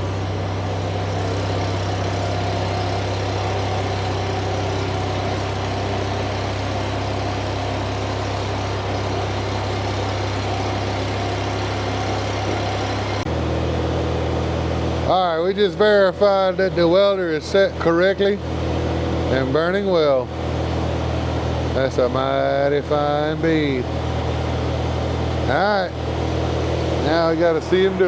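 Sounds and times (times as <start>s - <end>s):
arc welder humming and crackling: 0.0s - 28.0s.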